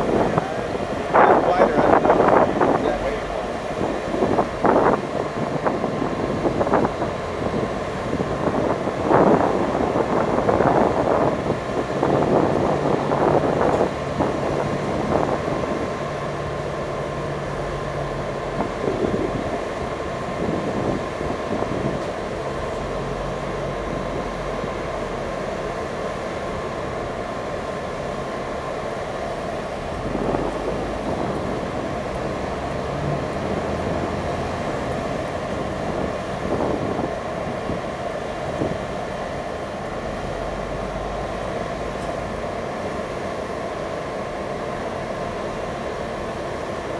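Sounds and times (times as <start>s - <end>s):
wind buffeting microphone: 0.0s - 25.4s, 29.4s - 43.9s
ferry engines droning: 0.0s - 46.9s.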